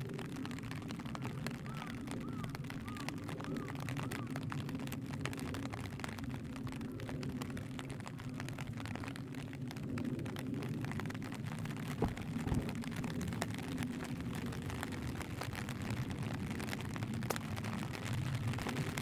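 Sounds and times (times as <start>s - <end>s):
rain ticking on plastic roof: 0.0s - 19.0s
steady low rumble: 2.5s - 19.0s.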